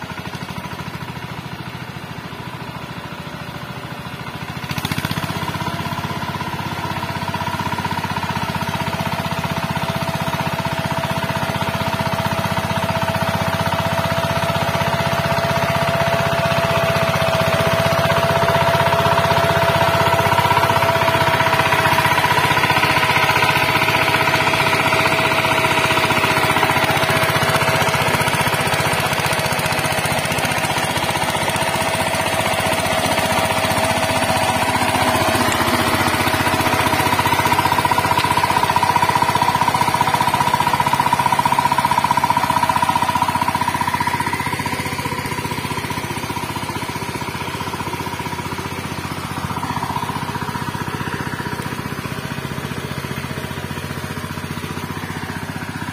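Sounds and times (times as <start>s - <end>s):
diesel tiller engine thudding: 0.0s - 55.9s.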